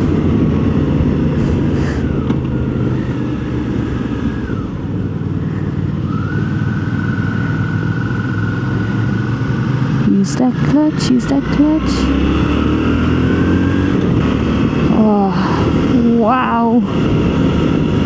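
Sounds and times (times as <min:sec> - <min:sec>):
wind rush: 0:00.0 - 0:10.0, 0:11.8 - 0:18.0
motorcycle engine cruising: 0:00.0 - 0:18.0.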